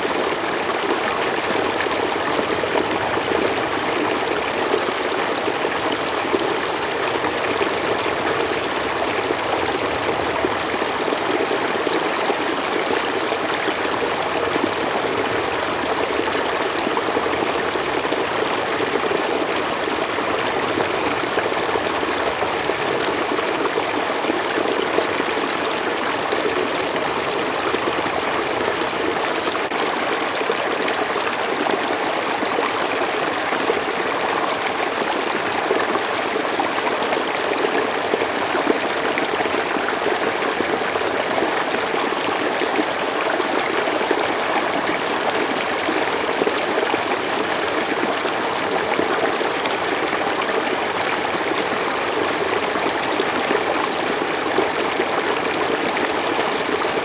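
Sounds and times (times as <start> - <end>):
stream flowing and babbling: 0.0 - 57.0.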